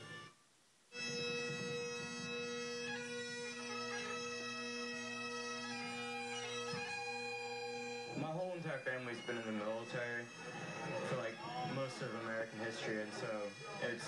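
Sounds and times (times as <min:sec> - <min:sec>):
bagpipes playing slow tune: 0:00.0 - 0:14.0.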